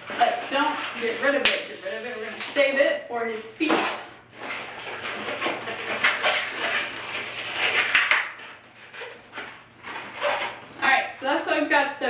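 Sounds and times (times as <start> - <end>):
balloons squeaking and rubbing: 0.0 - 3.6, 4.2 - 10.9.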